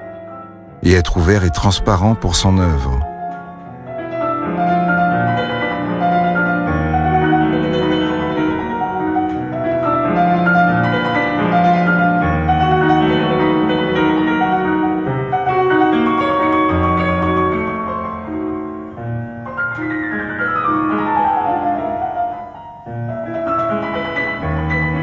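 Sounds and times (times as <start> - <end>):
solo piano music: 3.1 - 25.0.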